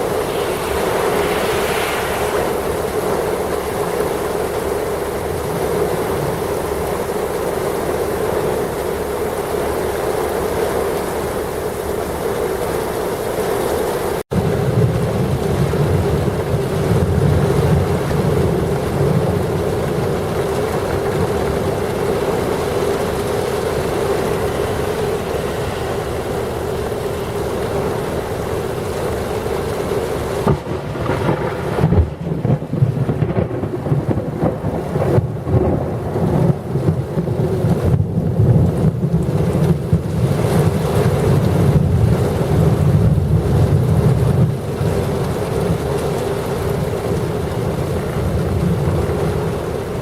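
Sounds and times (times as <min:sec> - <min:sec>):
wind buffeting microphone: 0:00.0 - 0:09.9, 0:14.3 - 0:50.0
heavy rain pouring: 0:00.0 - 0:50.0.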